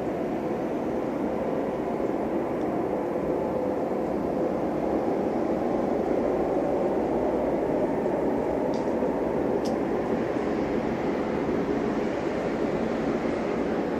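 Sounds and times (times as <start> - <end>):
low rumbling drone from sky: 0.0 - 13.9.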